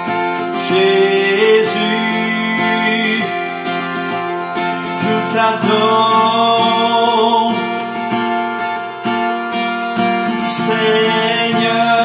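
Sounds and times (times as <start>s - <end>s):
acoustic guitar strumming: 0.0s - 12.0s
man singing: 0.1s - 8.0s, 10.2s - 12.0s.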